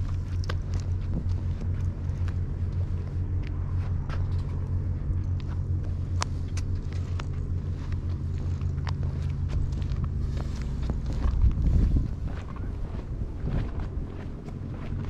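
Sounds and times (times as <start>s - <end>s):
footsteps on asphalt: 0.0s - 15.0s
low engine drone: 0.0s - 15.0s.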